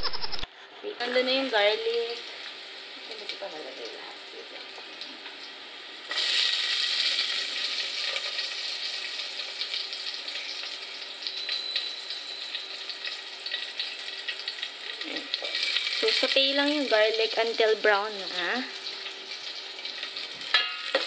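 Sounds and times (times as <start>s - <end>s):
small crackles of frying: 0.9s - 21.0s
garlic sizzling in hot oil: 1.0s - 21.0s.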